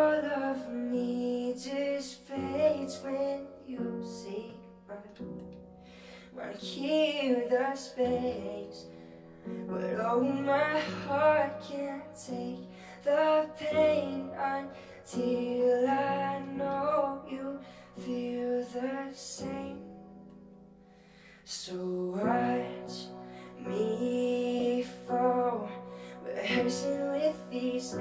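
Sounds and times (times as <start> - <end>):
man singing: 0.0 - 5.3, 6.3 - 19.9, 21.5 - 28.0
keyboard chords: 0.0 - 28.0.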